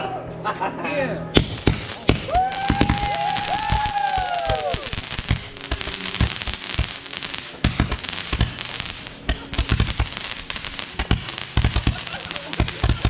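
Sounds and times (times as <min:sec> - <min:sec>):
firecrackers crackling: 0:01.4 - 0:13.0
firework bangs: 0:01.4 - 0:13.0
firework whistle: 0:01.4 - 0:13.0.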